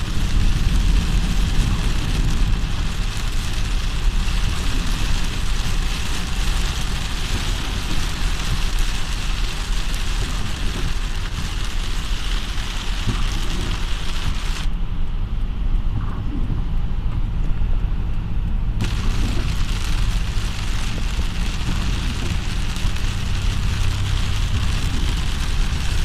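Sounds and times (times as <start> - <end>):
heavy rain on car roof: 0.0 - 14.7, 18.8 - 26.0
car road and engine rumble: 0.0 - 26.0.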